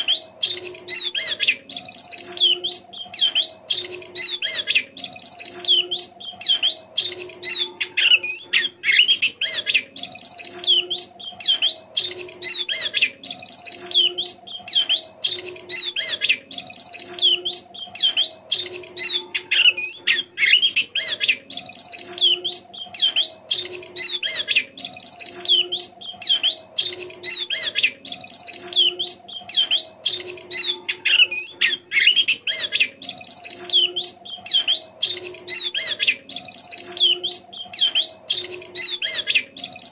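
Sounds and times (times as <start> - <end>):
bird twittering: 0.0 - 39.9
low bird call: 0.0 - 39.9.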